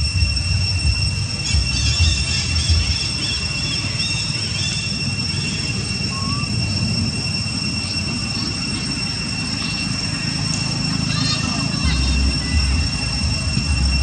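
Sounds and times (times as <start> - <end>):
cicadas droning: 0.0 - 14.0
faint insect chirps: 0.0 - 14.0
low rumbling background: 0.0 - 14.0.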